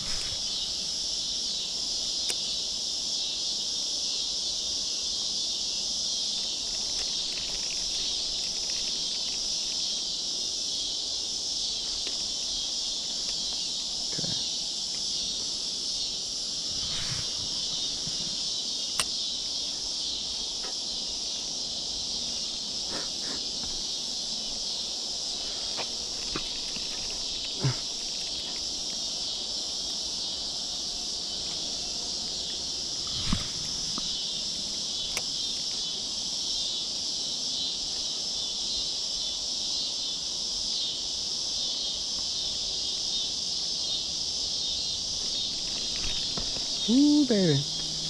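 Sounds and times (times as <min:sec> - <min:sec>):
high-pitched insect chorus: 0:00.0 - 0:48.0.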